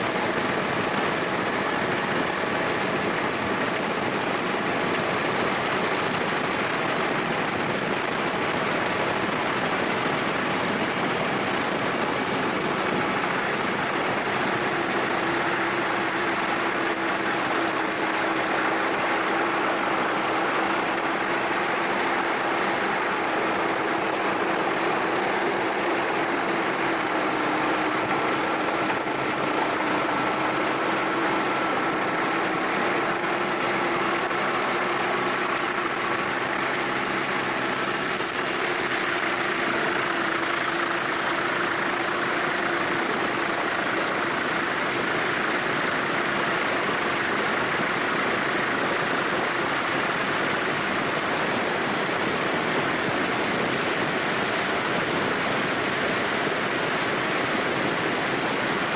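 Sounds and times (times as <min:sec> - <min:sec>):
machinery running noise: 0:00.0 - 0:58.9.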